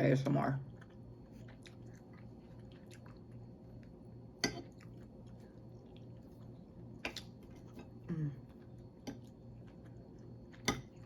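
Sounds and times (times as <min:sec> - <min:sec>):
wet chewing sounds: 0:00.6 - 0:11.0.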